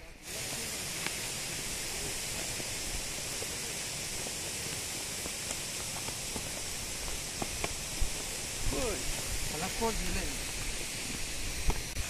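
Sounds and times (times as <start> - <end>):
waterfall roar: 0.3 - 12.0.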